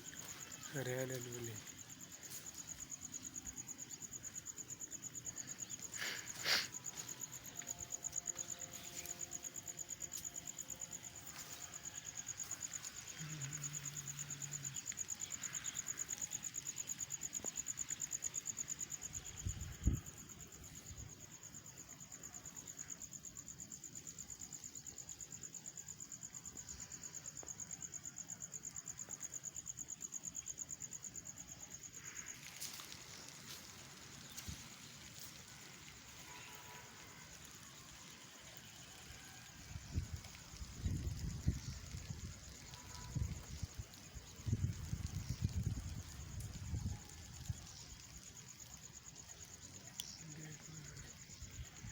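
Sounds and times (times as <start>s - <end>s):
insect trilling: 0.0s - 51.9s.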